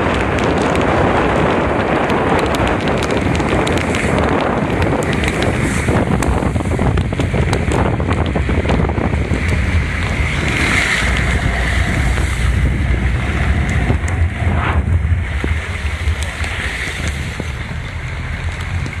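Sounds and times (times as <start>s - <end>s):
heavy rain on floodwater: 0.0s - 19.0s
wind buffeting microphone: 0.0s - 19.0s.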